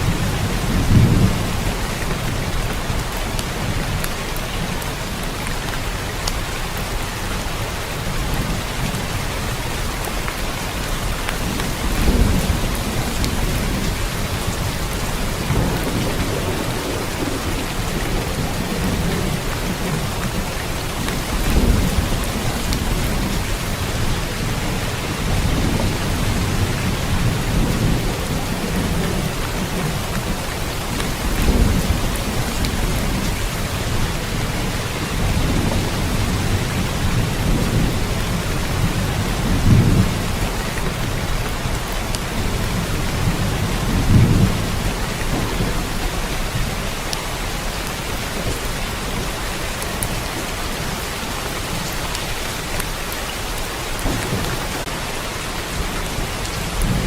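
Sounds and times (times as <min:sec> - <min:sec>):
thunder rumbling: 0:00.0 - 0:05.4, 0:08.0 - 0:52.9, 0:53.5 - 0:57.0
steady rain falling: 0:00.0 - 0:57.0.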